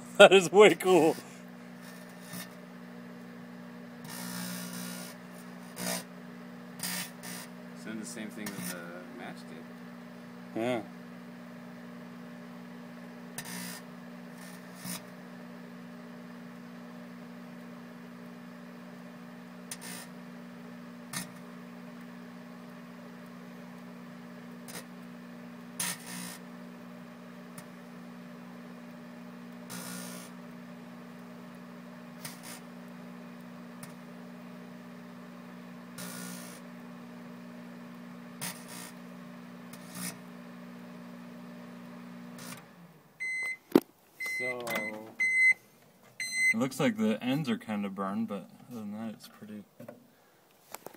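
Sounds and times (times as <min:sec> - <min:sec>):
microwave oven humming: 0:00.0 - 0:49.1.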